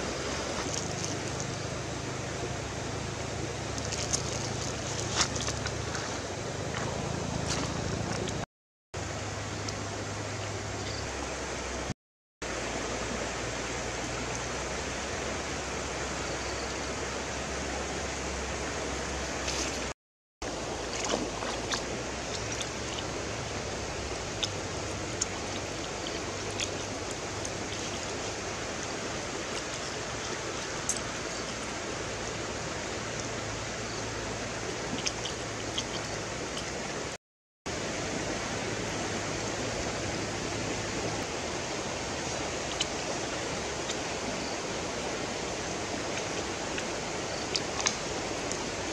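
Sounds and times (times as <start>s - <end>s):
river flowing over stones: 0.0s - 48.9s.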